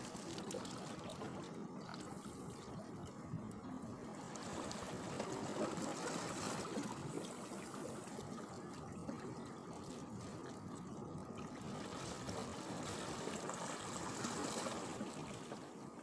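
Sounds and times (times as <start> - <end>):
water lapping and trickling: 0.0 - 16.0.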